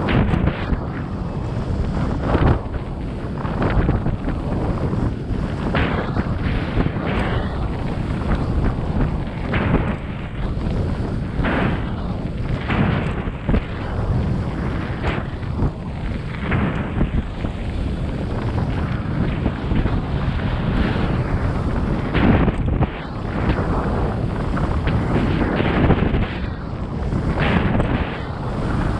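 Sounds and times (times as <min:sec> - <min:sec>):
bike rumble off-road: 0:00.0 - 0:28.9
wind buffeting microphone: 0:00.0 - 0:28.9.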